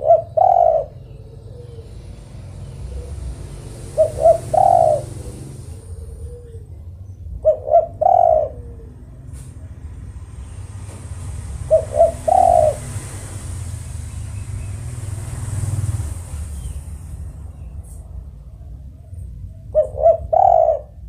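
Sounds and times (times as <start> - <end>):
dove cooing: 0.0 - 14.3, 14.9 - 21.0
low hum: 0.0 - 21.0.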